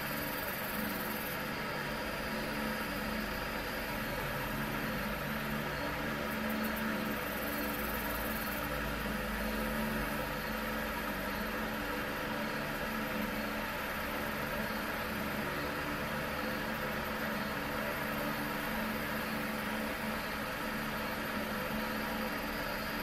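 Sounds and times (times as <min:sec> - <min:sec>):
mechanical whir and hum: 0:00.0 - 0:23.0.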